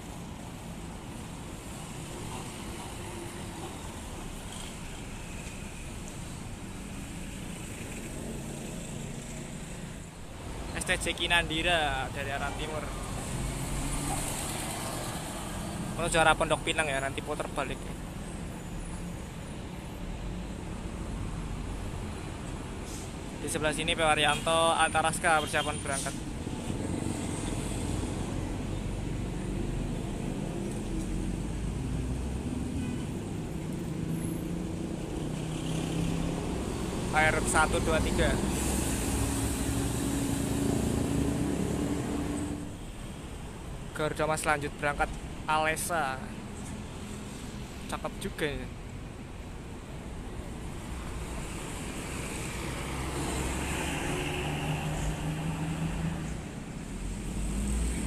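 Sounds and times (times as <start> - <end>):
light road traffic: 0.0 - 58.0.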